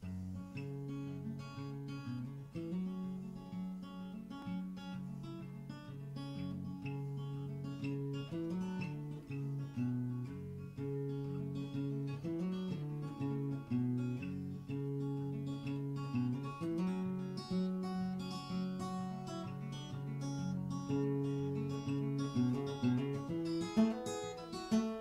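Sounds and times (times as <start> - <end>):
fingerstyle acoustic guitar: 0.0 - 25.0.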